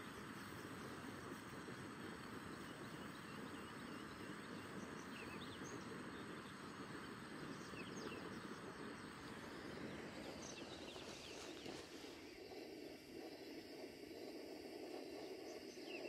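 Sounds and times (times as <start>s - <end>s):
small birds chirping: 0.0s - 16.0s
steady rushing noise: 0.0s - 16.0s.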